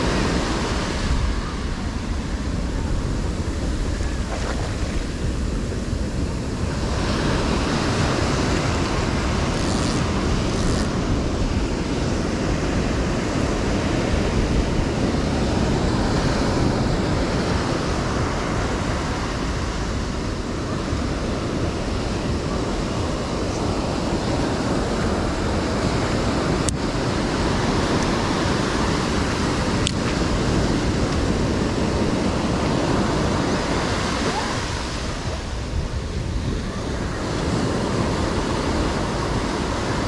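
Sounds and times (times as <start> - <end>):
ocean surf breaking: 0.0 - 40.0
wind rumbling on microphone: 0.0 - 40.0.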